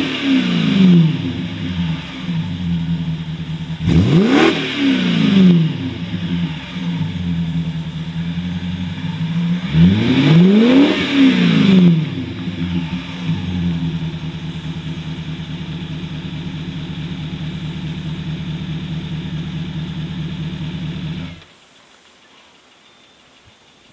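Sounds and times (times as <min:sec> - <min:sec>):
car engine revving and idling: 0:00.0 - 0:21.5.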